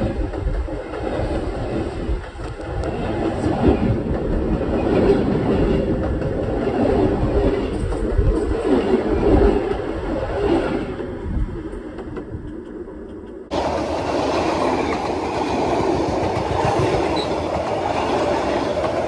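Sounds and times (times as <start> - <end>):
railway wheels rumbling on rails: 0.0 - 19.0.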